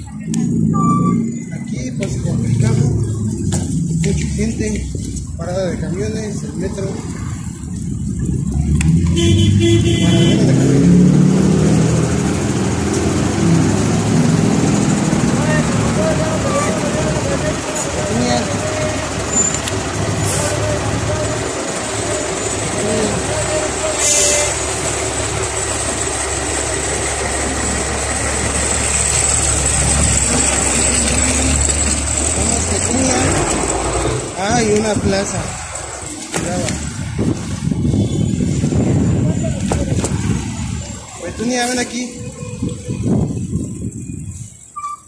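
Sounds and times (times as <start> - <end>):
bus engines pulling past: 0.0 - 44.8
dense street traffic: 0.0 - 45.0.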